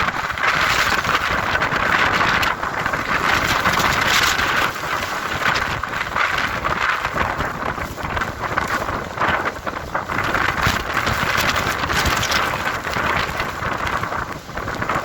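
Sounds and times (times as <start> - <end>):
gusting wind: 0.0 - 15.0
wind buffeting microphone: 0.0 - 15.0.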